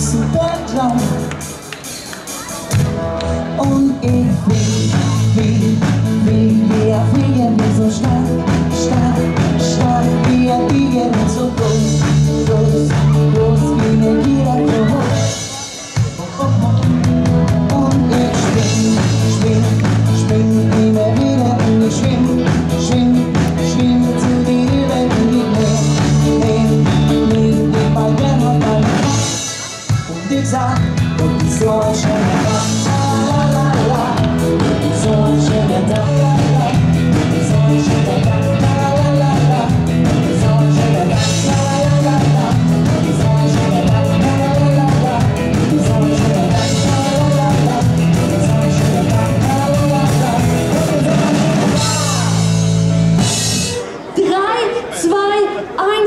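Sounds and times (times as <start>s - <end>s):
person singing: 0.0s - 1.6s, 2.3s - 53.9s
live rock band playing: 0.0s - 54.2s.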